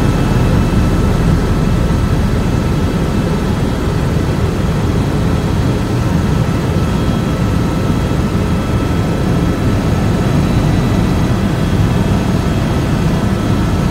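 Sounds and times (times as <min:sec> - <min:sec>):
faint high whine: 0:00.0 - 0:13.9
helicopter engine and rotor: 0:00.0 - 0:13.9.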